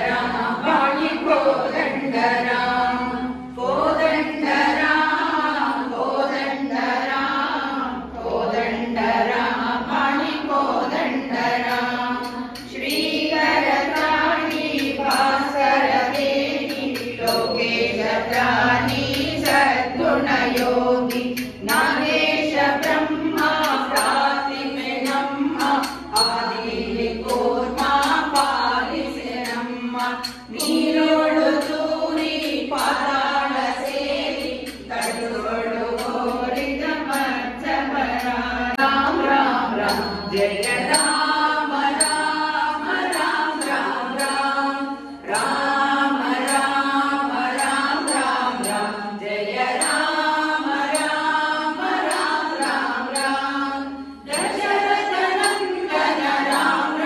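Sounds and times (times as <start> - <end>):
group of women singing: 0.0 - 57.0
rhythmic ticking beat: 0.0 - 57.0.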